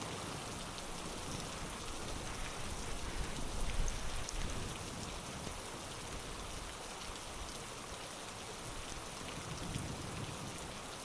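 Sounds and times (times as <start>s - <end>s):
steady rainfall: 0.0s - 11.0s.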